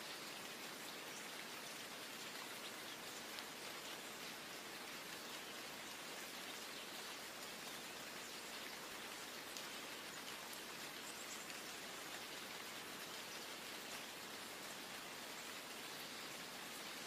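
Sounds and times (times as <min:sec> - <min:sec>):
steady rainfall hiss: 0:00.0 - 0:17.0.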